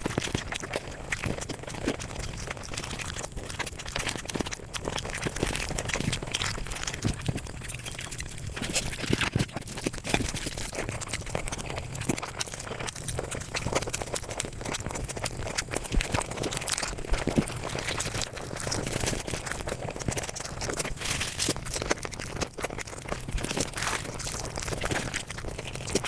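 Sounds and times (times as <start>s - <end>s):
fast chewing and mouth clicks: 0.0s - 26.0s.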